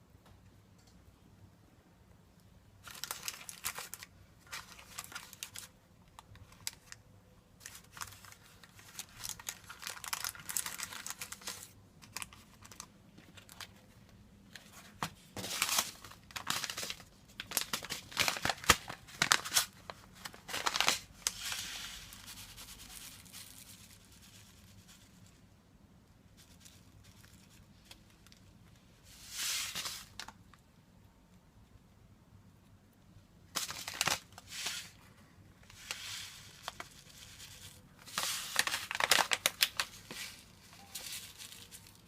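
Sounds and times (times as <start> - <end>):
crinkling and rustling: 2.8 - 7.0, 7.6 - 25.4, 26.3 - 30.6, 33.5 - 42.0.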